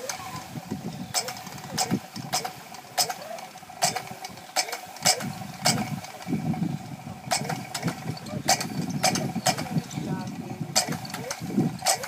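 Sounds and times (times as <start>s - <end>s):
sharp clicks: 0.0s - 6.4s, 7.3s - 12.0s
motor whining: 0.0s - 12.0s.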